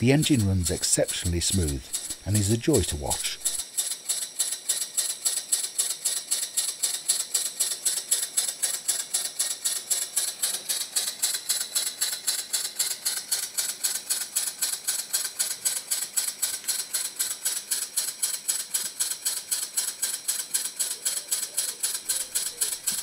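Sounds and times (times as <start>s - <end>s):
model steam engine chuffing: 0.0s - 23.0s.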